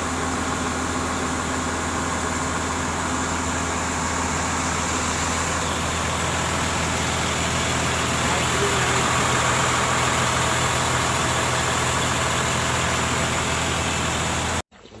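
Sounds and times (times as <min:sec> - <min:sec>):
motor humming: 0:00.0 - 0:14.6.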